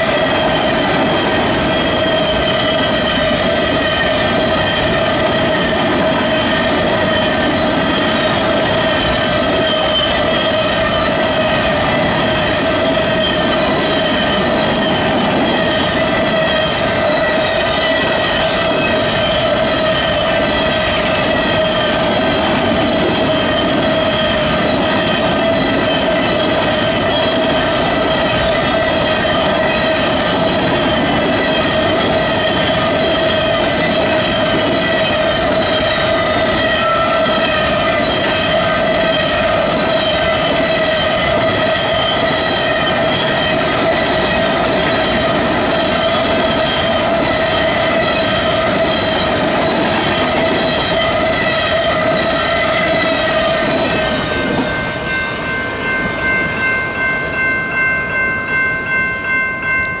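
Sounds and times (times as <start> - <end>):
crossing bell ringing: 0.0 - 60.0
train wheels clacking: 0.0 - 60.0.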